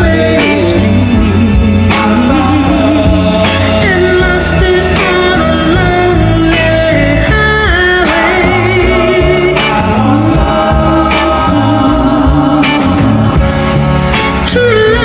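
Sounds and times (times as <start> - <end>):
band with bass and drums: 0.0 - 15.0
soul song with singing: 0.0 - 15.0.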